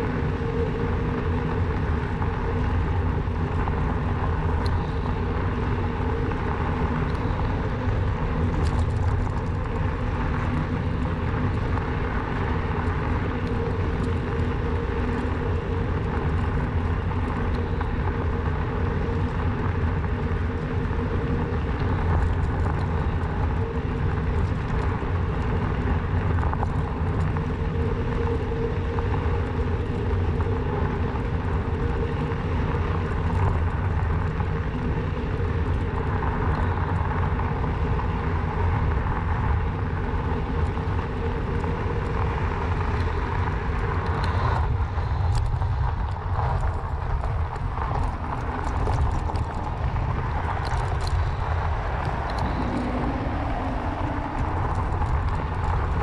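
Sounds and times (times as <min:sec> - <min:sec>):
electric bike ride rumble: 0:00.0 - 0:56.0.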